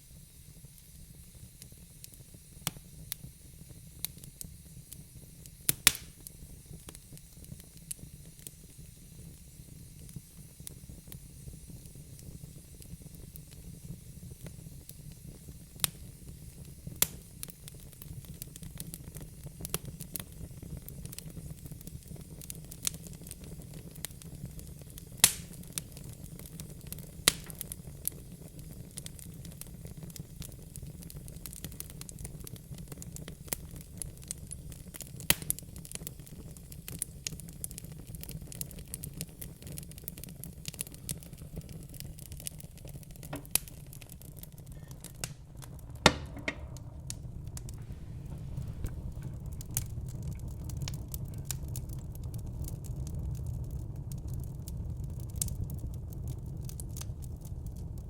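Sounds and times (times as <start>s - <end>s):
fire rumbling and hissing: 0.0s - 58.0s
wood fire crackling and popping: 0.1s - 58.0s.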